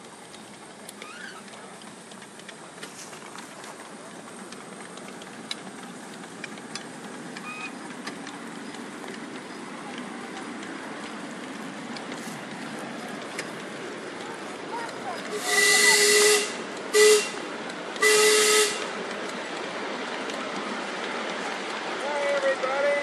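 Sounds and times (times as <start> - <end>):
miniature steam locomotive rushing: 0.0 - 23.0
wheels clicking on rails: 0.0 - 23.0.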